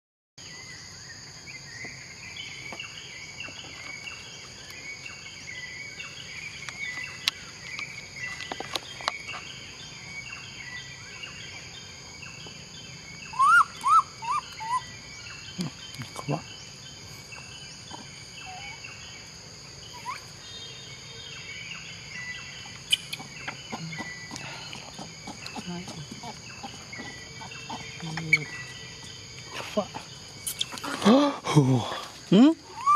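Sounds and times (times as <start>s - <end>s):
bird calls: 1.7s - 32.9s.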